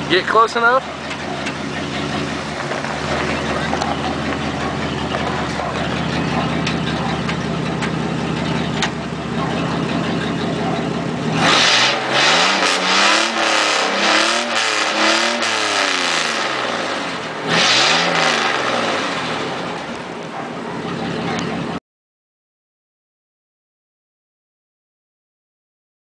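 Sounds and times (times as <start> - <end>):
car engine idling and revving: 0.0 - 21.8.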